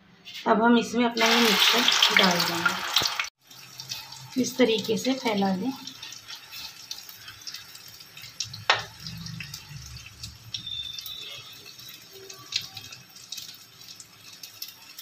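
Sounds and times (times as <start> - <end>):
egg mixture sizzling in oil: 1.2 - 15.0.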